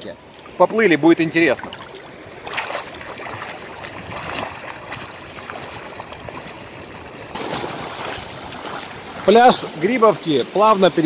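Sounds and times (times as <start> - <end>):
water lapping against microphone: 0.0 - 11.0
water splashing from swimming: 0.2 - 11.0
small waves washing on sand: 0.3 - 11.0.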